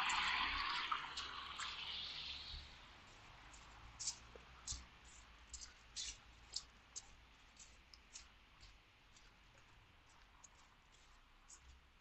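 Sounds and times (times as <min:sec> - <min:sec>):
faint footsteps: 0:00.0 - 0:12.0.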